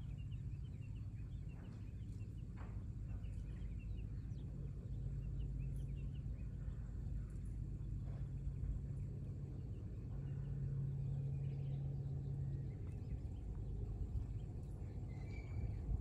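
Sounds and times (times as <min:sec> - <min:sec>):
low rumble: 0:00.0 - 0:16.0
steady low hum: 0:00.0 - 0:16.0.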